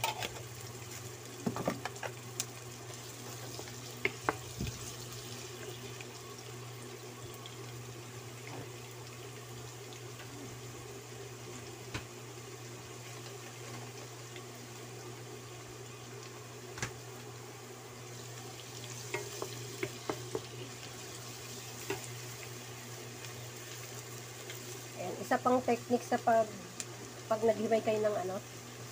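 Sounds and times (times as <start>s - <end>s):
garlic and onions sizzling in oil: 0.0s - 28.9s.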